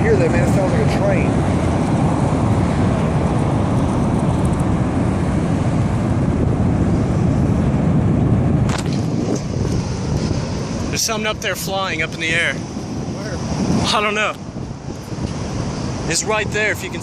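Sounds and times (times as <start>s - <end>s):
tornado rumbling: 0.0s - 17.0s
wind noise on microphone: 0.0s - 17.0s.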